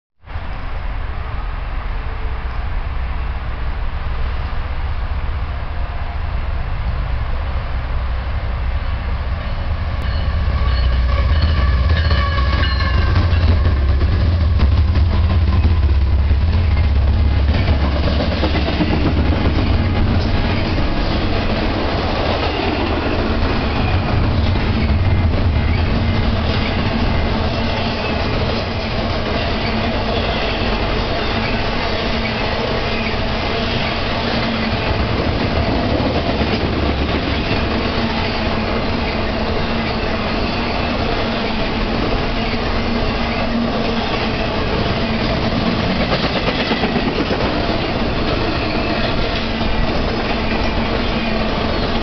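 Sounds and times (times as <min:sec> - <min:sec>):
locomotive rumble and whine: 0:00.4 - 0:52.0
wheels clattering on rail: 0:10.0 - 0:52.0.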